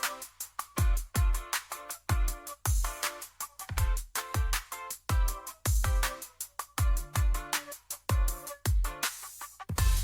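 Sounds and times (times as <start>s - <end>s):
electronic dance music: 0.0s - 9.1s, 9.8s - 10.0s.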